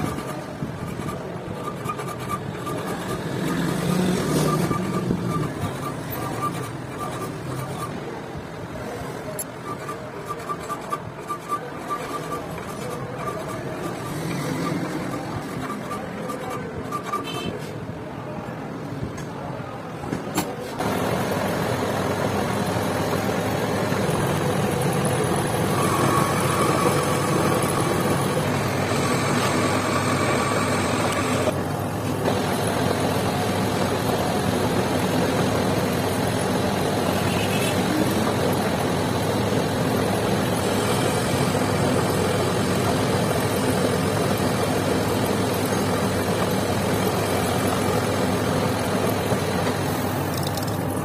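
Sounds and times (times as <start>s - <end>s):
metal lathe running: 0.0s - 8.2s, 9.3s - 17.2s, 20.8s - 51.0s.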